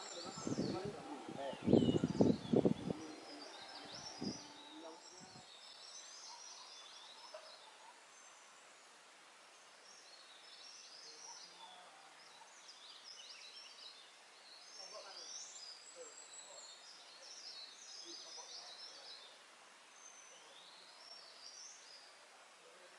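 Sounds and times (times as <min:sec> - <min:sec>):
forest birds singing and chirping: 0:00.0 - 0:22.9.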